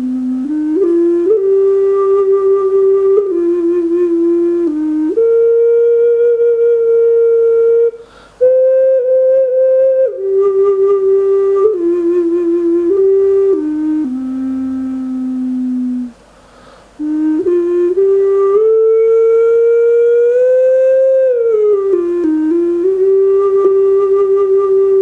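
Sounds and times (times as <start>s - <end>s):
ocarina slow melody: 0.0s - 25.0s.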